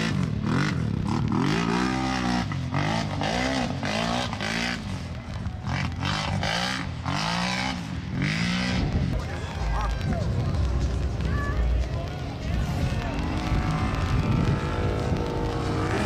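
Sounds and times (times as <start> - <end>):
atv engines revving: 0.0 - 16.0.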